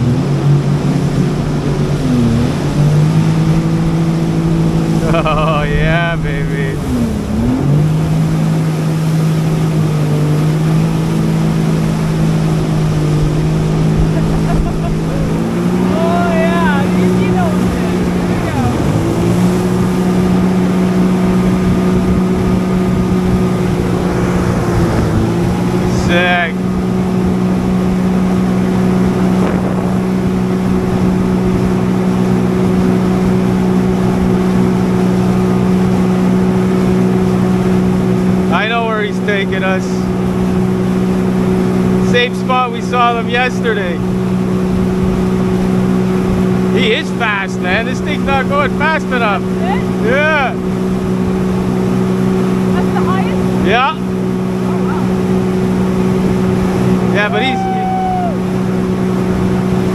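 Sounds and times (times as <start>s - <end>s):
jet ski engine running: 0.0s - 59.9s
rush of wind and water: 0.0s - 59.9s.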